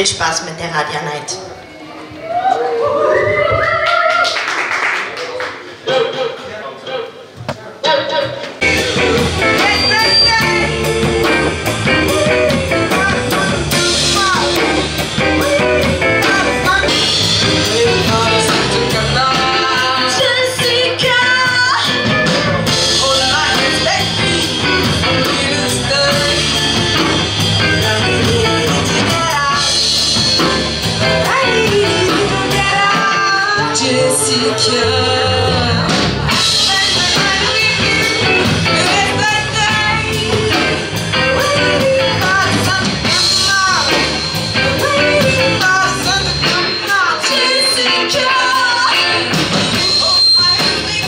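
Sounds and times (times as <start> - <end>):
electric guitars and bass: 8.5 - 51.0
woman singing: 8.9 - 51.0.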